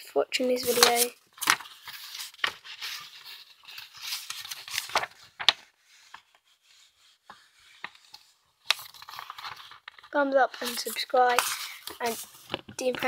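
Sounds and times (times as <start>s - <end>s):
drawing paper rustling: 0.4s - 13.0s.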